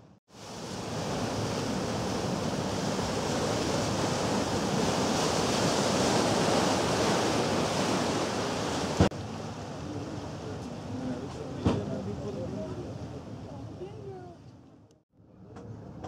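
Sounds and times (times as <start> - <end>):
water rushing against hull: 0.2 - 14.3.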